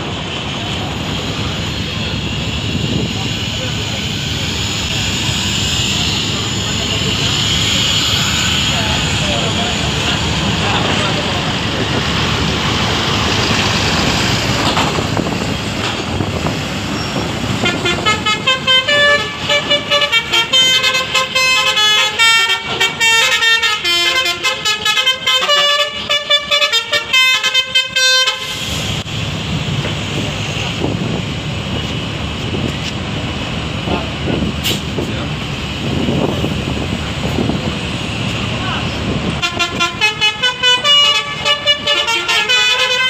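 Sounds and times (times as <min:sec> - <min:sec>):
bus engines running: 0:00.0 - 0:43.0.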